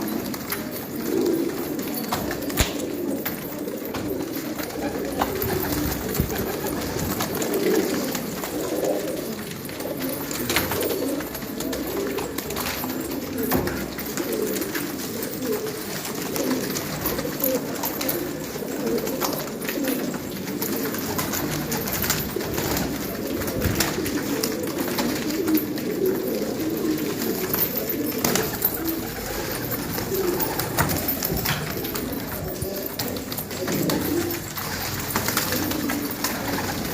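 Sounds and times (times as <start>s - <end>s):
pigeons cooing: 0.0s - 36.9s.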